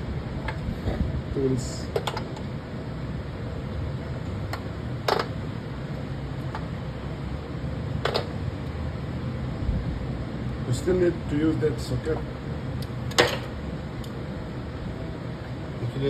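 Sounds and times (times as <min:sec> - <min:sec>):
low fan hum: 0:00.0 - 0:16.0.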